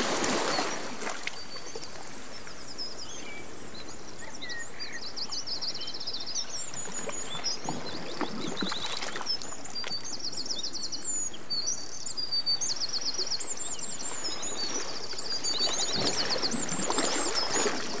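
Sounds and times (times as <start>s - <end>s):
songbirds chirping and trilling: 0.1s - 18.0s.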